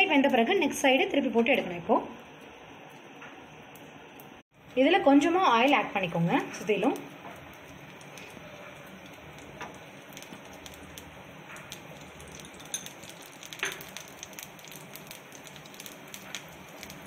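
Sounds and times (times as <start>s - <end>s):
oil sizzling and popping: 0.0s - 17.0s.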